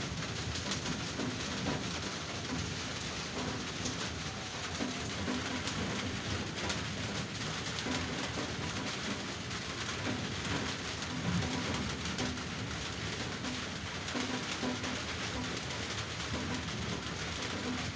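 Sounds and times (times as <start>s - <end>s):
heavy rain on trees and grass: 0.0s - 17.9s.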